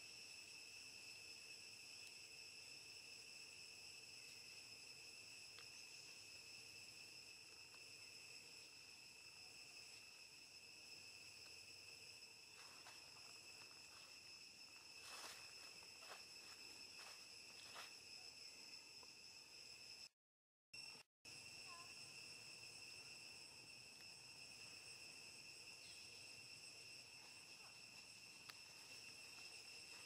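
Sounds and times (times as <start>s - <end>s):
high-pitched insect drone: 0.0s - 20.1s, 20.8s - 30.0s.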